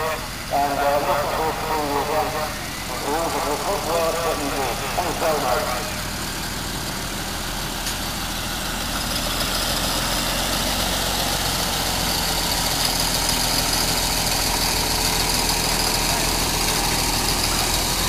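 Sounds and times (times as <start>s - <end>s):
pickup truck engine approaching: 0.0s - 18.0s
tractor engine passing: 0.0s - 18.0s.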